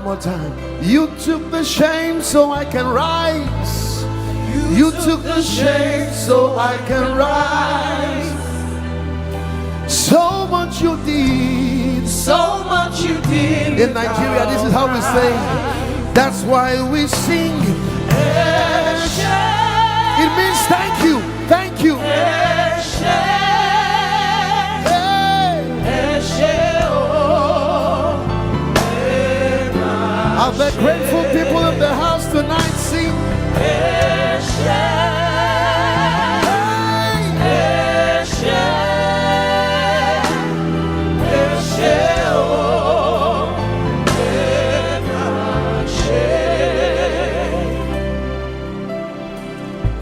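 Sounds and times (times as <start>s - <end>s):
voices singing with vibrato: 0.0s - 9.2s, 9.9s - 49.6s
band with bass and keyboard: 0.0s - 50.0s
gospel worship music: 0.0s - 50.0s.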